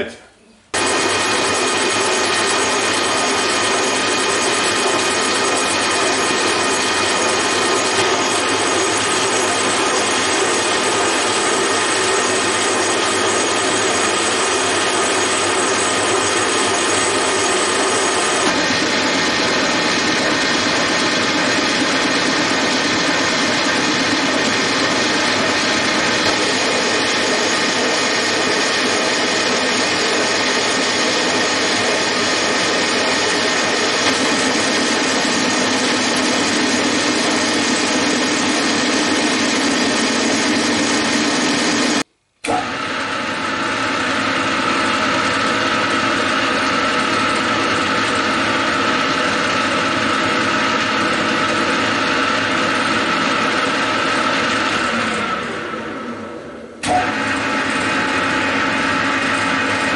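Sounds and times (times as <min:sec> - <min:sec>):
metal lathe cutting with whine: 0:00.8 - 0:59.9.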